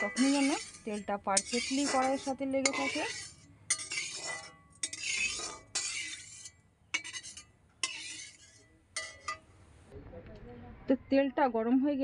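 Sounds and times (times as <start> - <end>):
utensil scraping inside wok: 0.0 - 9.8.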